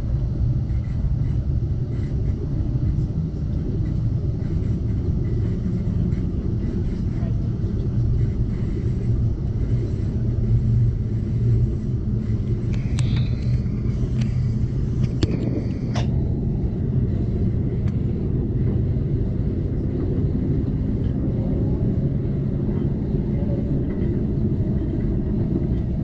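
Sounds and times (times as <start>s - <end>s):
train rumble inside coach: 0.0s - 26.0s.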